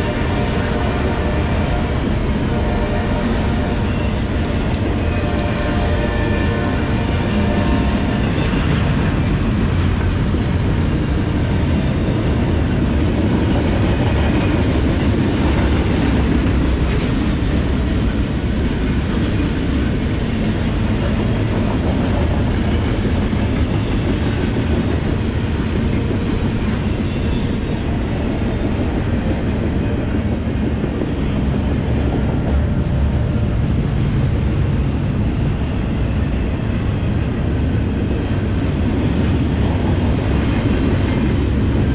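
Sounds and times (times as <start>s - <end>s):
freight train wheels rolling on rail: 0.0s - 41.9s.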